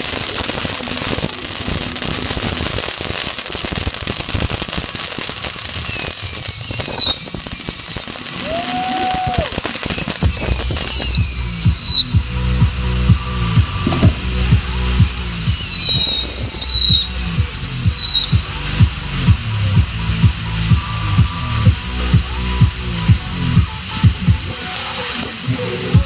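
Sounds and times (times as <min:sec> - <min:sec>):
crackling firecracker pops: 0:00.0 - 0:26.0
whistling fireworks: 0:00.0 - 0:26.0.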